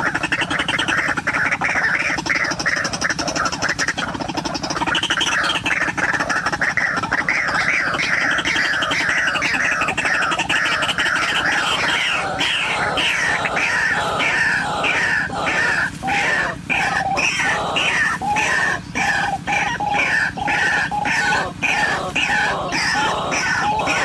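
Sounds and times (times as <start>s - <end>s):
bird calling harsh notes: 0.0s - 24.0s
lower bird notes: 2.2s - 24.0s.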